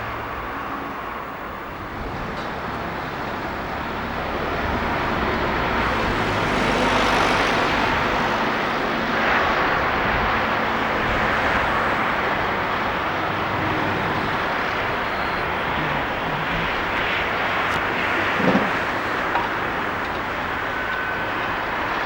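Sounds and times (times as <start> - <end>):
diesel train engine running: 0.0 - 22.0.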